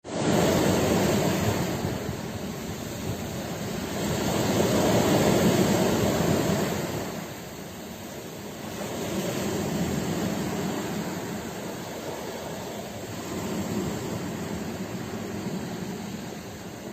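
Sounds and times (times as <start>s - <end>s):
ocean waves breaking: 0.0s - 16.9s.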